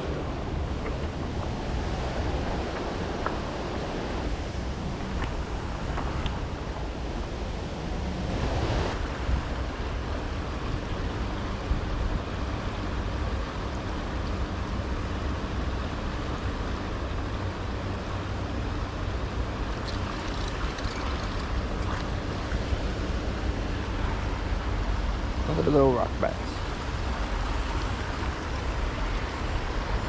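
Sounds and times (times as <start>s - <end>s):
heavy low rumble: 0.0s - 30.0s
river water moving: 0.0s - 30.0s
wind buffeting microphone: 0.0s - 30.0s.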